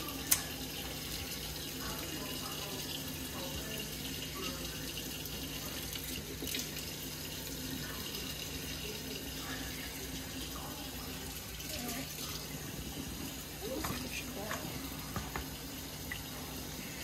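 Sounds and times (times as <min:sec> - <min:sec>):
tap water splashing into sink: 0:00.0 - 0:16.5.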